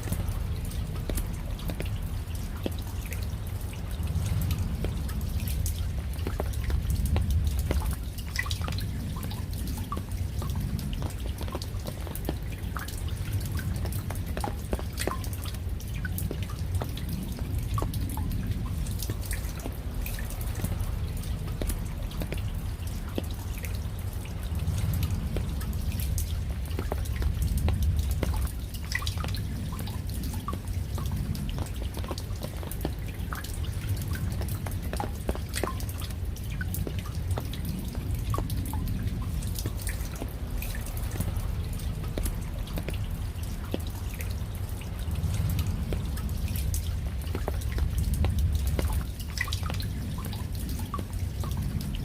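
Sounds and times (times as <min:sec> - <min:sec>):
raindrops dripping: 0:00.0 - 0:52.0.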